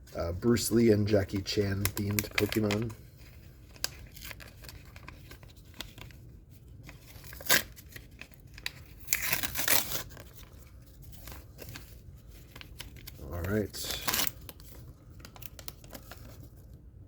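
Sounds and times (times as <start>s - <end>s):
wrapper tearing and crinkling: 0.6s - 16.7s.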